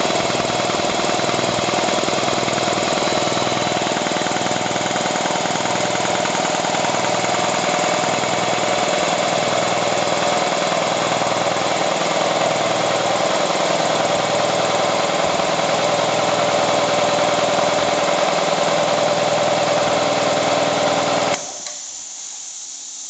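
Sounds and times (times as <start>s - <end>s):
air compressor running: 0.0s - 23.0s.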